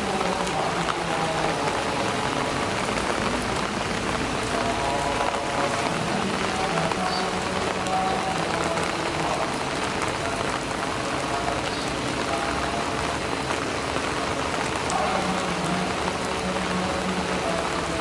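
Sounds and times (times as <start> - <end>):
rain falling on leaves: 0.0 - 18.0.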